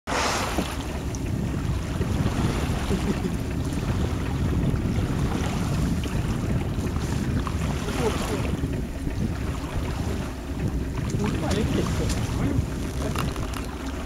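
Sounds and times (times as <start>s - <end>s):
water noise: 0.0s - 14.0s
wind noise on microphone: 0.1s - 14.0s.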